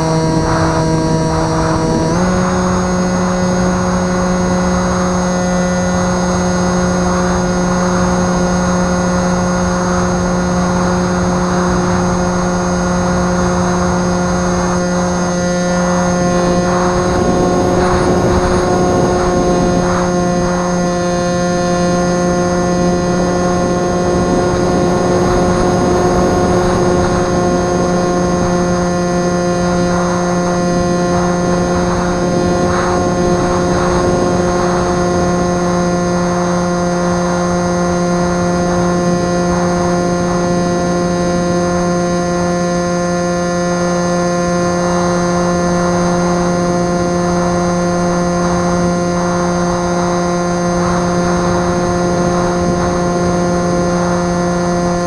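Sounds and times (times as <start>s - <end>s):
electrical hum: 0.0s - 55.0s
wind noise on microphone: 0.0s - 55.0s.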